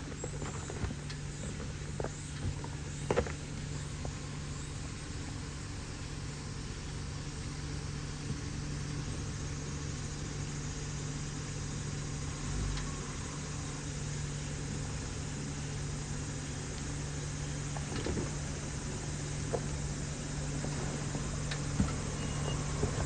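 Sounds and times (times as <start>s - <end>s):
vehicle engine running at low revs: 0.0s - 23.0s.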